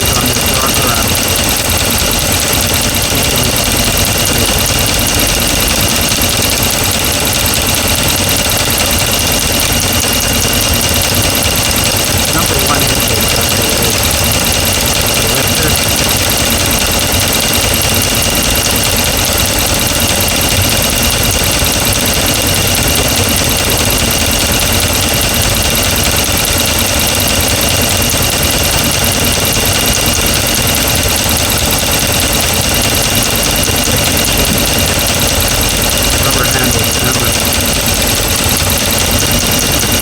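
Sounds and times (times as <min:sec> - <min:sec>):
engine idling: 0:00.0 - 0:40.0
rapid valvetrain ticking: 0:00.0 - 0:40.0.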